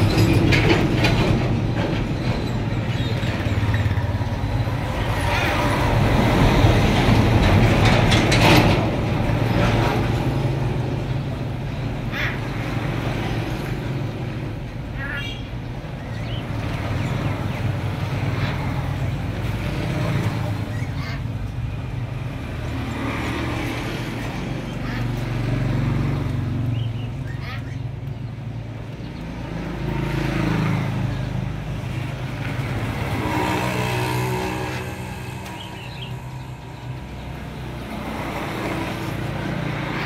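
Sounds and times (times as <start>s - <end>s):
vehicle engine humming: 0.0s - 40.0s.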